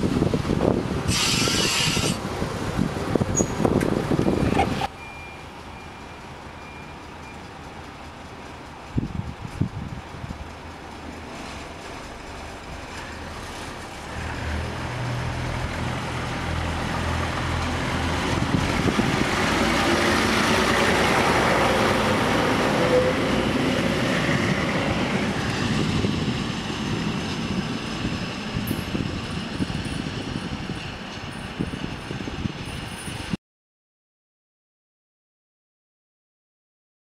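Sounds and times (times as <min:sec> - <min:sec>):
diesel railbus engine: 0:00.0 - 0:33.4
train wheel noise: 0:00.0 - 0:33.4.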